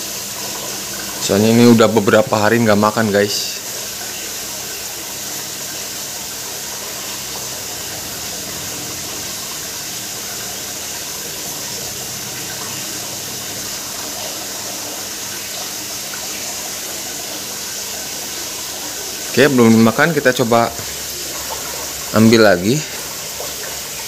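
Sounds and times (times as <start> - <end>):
aquarium bubbling water hiss: 0.0 - 24.0.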